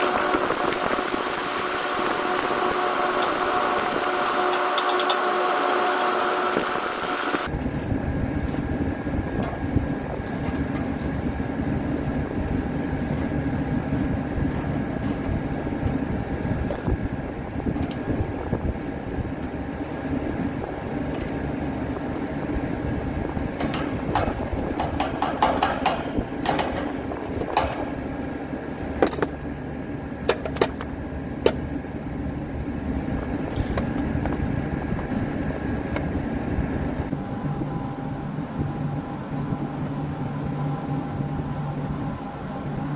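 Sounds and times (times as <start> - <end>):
condensing unit hum with fan noise: 0.0 - 42.9.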